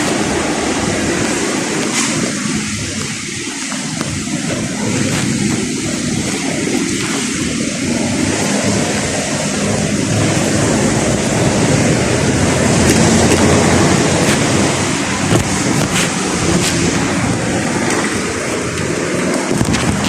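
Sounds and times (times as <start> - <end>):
rain: 0.0 - 20.0
tyre and road noise: 0.0 - 20.0.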